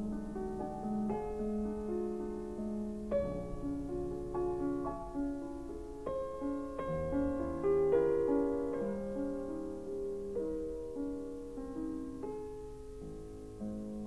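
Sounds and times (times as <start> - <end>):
slow gentle solo piano: 0.0 - 14.0.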